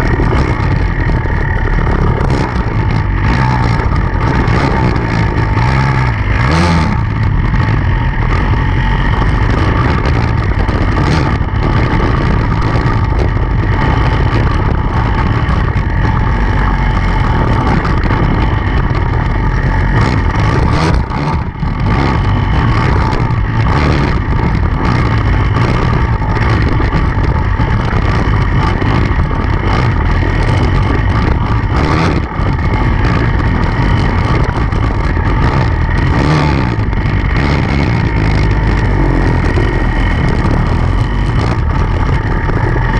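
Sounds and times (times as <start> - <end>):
motorcycle engine running hard: 0.0 - 42.9.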